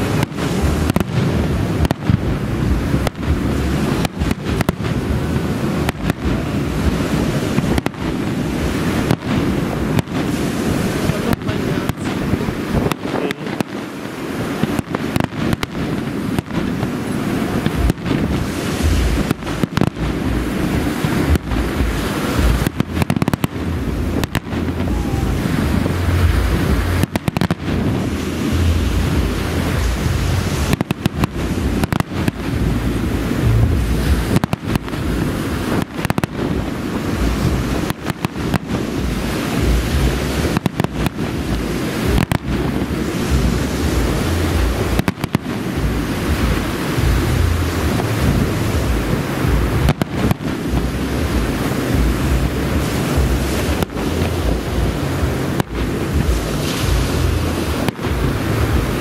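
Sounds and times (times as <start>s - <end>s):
fireworks bursting with booms: 0.0s - 59.0s
wind rumble on microphone: 0.0s - 59.0s.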